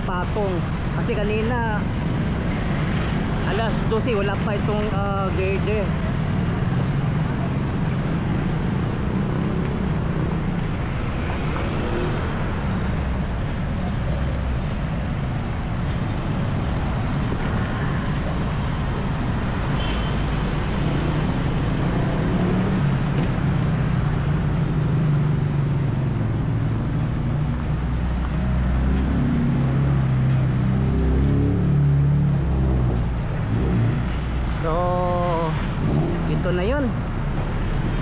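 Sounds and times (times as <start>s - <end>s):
vehicles passing on busy road: 0.0s - 38.0s.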